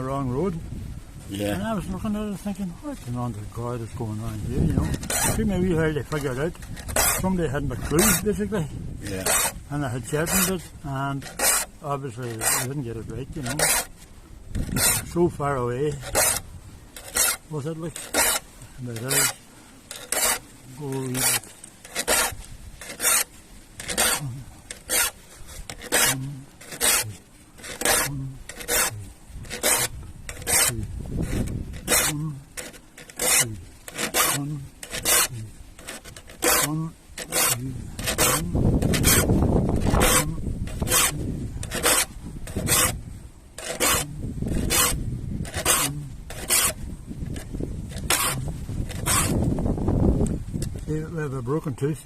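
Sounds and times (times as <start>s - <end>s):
file rasping on saw teeth: 4.7s - 8.4s, 9.0s - 13.9s, 14.5s - 16.4s, 17.0s - 43.0s, 43.6s - 49.5s.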